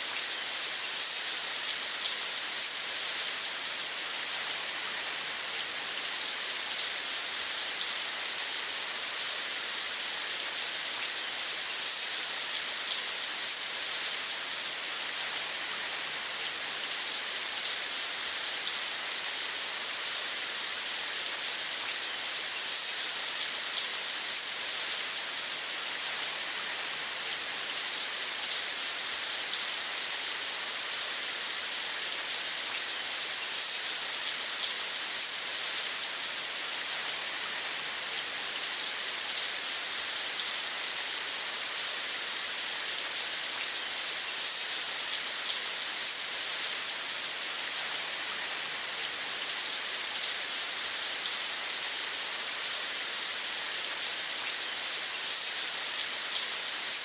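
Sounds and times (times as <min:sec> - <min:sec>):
rain falling: 0:00.1 - 0:57.0.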